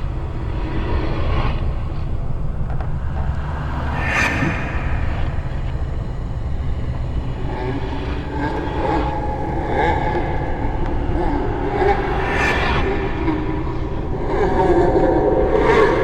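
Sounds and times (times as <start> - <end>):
low rumbling drone: 0.0 - 16.0
eerie wavering pitched sounds: 3.1 - 16.0.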